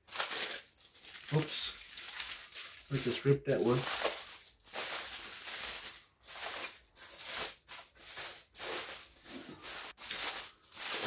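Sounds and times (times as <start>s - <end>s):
foil crinkling: 0.0s - 11.0s.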